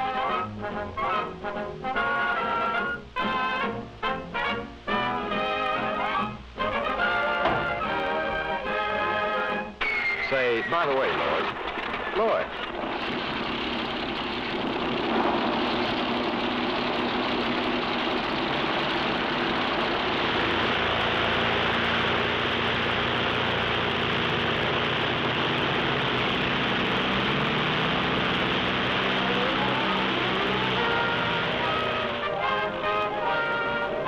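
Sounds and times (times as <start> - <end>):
propeller engines running up: 0.0 - 34.0.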